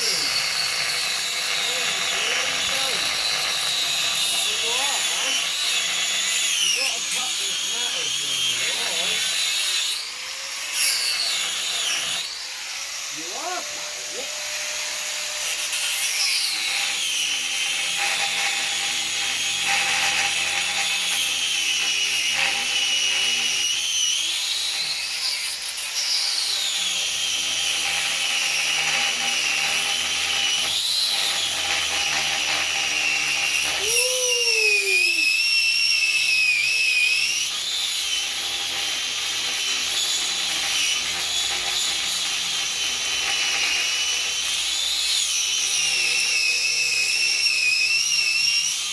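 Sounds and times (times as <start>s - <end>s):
angle grinder whining on steel: 0.0s - 48.9s.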